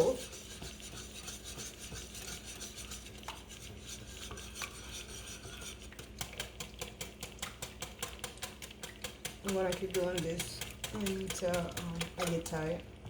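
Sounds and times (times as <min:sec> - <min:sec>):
whisk clicking against bowl: 0:00.0 - 0:12.7
utensil stirring and scraping bowl: 0:00.0 - 0:12.8.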